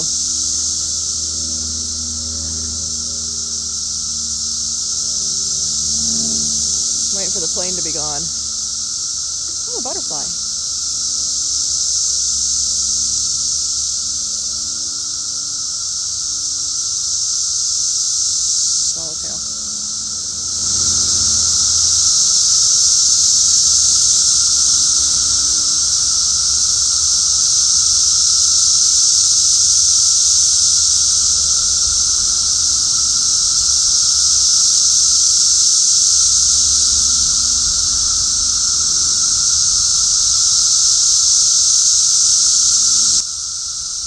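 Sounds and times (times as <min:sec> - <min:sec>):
cicadas droning: 0:00.0 - 0:44.0.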